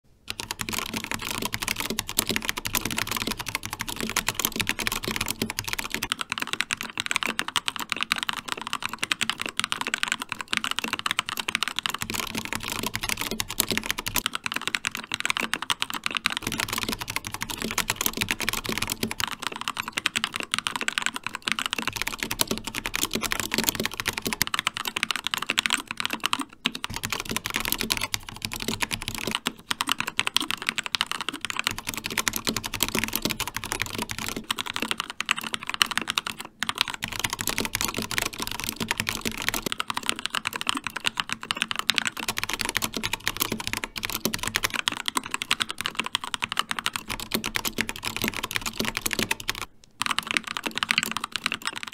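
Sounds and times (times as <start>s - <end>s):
mechanical keyboard typing: 0.3s - 51.9s.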